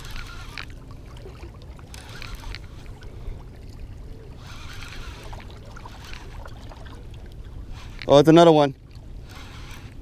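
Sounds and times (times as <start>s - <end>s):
water lapping against rocks: 0.0s - 10.0s.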